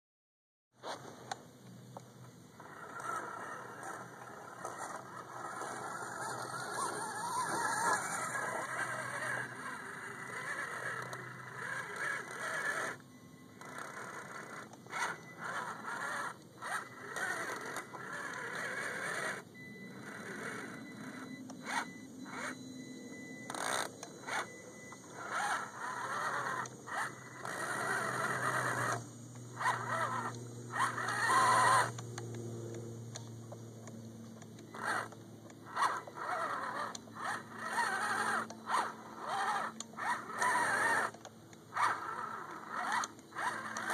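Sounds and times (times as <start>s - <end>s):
electric motor whining in bursts: 2.3s - 43.9s.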